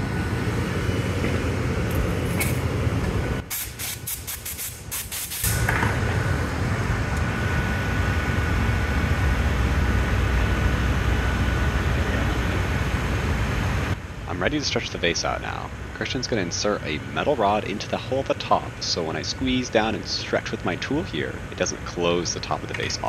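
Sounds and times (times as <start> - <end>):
gas furnace and fans roaring: 0.0 - 23.0.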